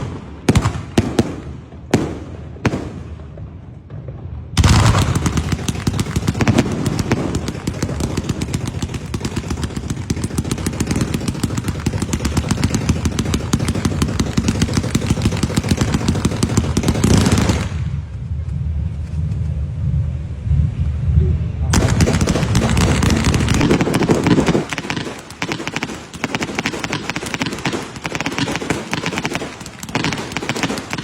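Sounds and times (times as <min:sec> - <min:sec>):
fireworks bangs and crackles: 0:00.0 - 0:20.1, 0:21.7 - 0:31.0
low background rumble: 0:00.0 - 0:31.0.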